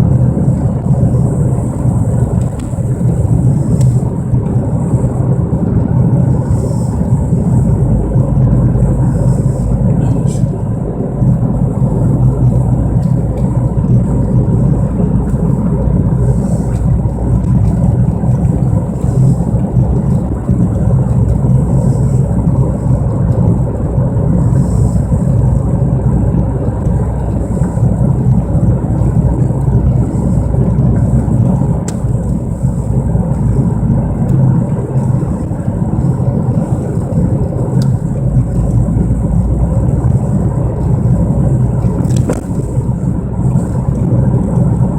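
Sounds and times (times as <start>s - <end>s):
low drone from moving car: 0.0s - 44.9s.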